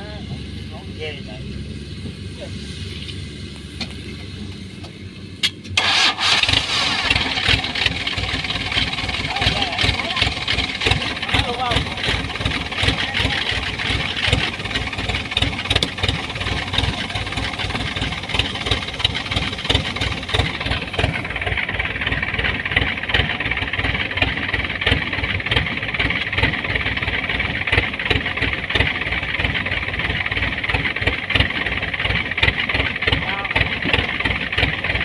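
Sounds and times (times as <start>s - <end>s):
harvester engine chugging: 0.0s - 35.0s.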